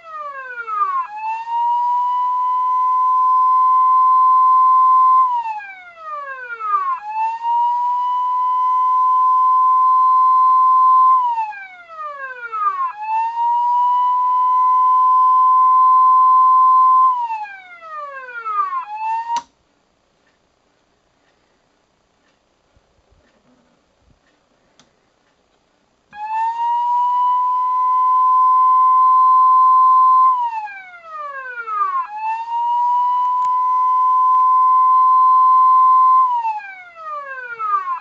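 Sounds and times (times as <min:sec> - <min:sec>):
siren wailing: 0:00.0 - 0:19.5, 0:26.1 - 0:38.0.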